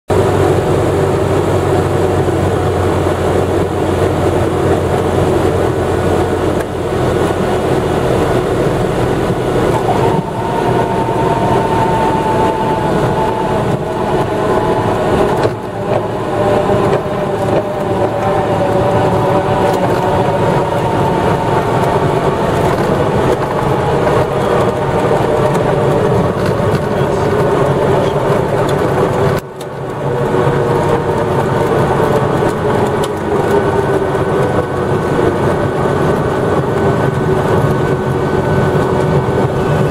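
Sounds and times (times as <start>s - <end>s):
propeller plane engine drone: 0.1s - 39.9s.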